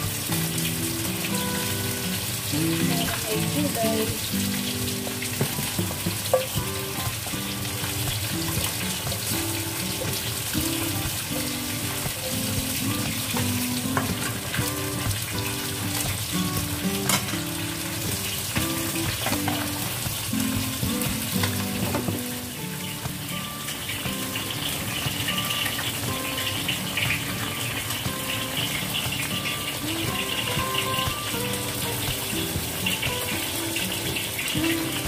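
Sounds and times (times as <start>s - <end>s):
broth boiling and bubbling: 0.0s - 35.0s
soft background music: 0.0s - 35.0s.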